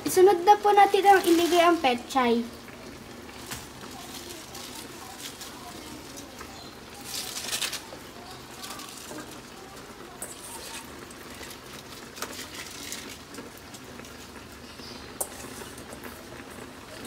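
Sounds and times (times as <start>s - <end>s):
broth simmering in a wok: 0.0s - 17.0s
leaves crackling and rustling: 0.2s - 17.0s.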